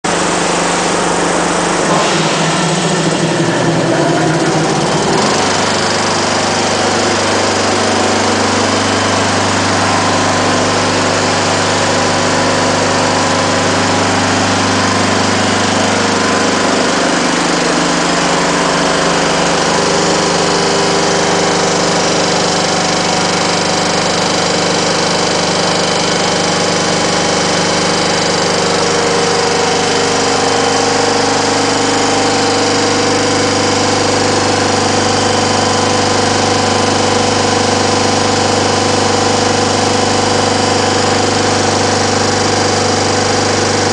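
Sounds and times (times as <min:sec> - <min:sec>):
compressor droning: 0:00.0 - 0:43.9.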